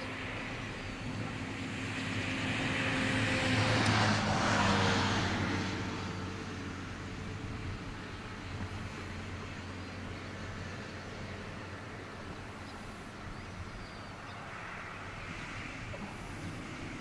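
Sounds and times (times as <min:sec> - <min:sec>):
distant electric train rumbling: 0:00.0 - 0:17.0.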